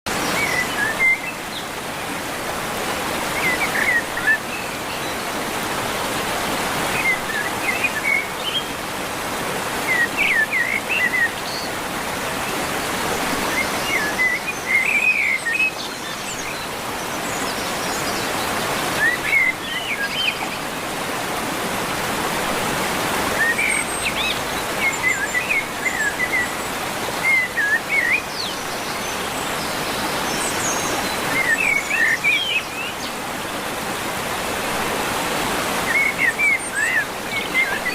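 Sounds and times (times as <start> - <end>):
birds chirping and warbling: 0.1 - 21.1, 21.8 - 37.9.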